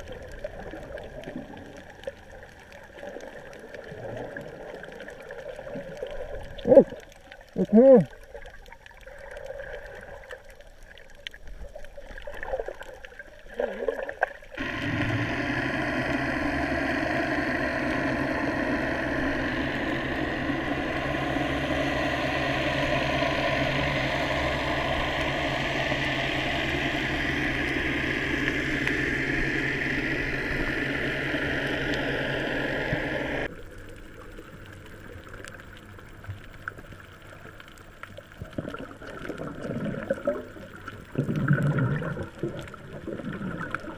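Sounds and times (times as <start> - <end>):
boat engine humming underwater: 0.0 - 43.9
water sloshing and bubbling: 0.0 - 43.9.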